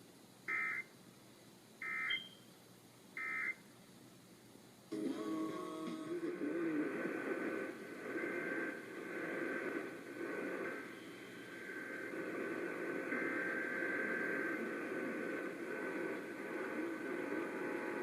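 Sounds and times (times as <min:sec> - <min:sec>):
radio static hiss: 0:00.0 - 0:01.0, 0:03.1 - 0:03.8, 0:04.7 - 0:18.0.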